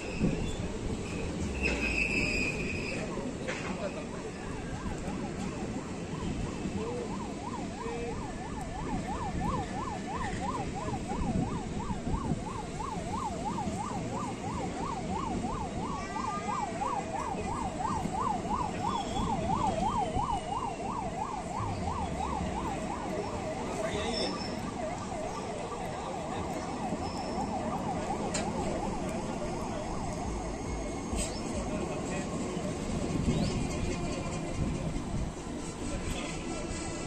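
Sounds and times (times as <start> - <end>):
siren-like wail: 0.0 - 37.0
train wheels rumbling on track: 0.0 - 37.0.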